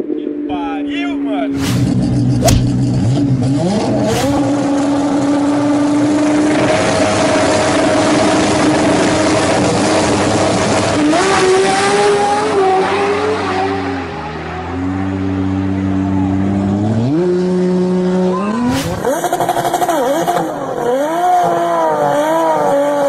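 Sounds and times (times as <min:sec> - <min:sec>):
car engine revving: 0:01.4 - 0:23.0.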